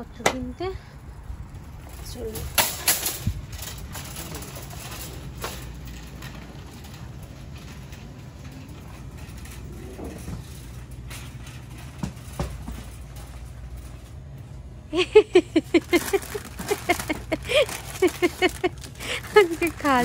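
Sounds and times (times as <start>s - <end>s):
shopping cart rolling: 1.5s - 20.0s.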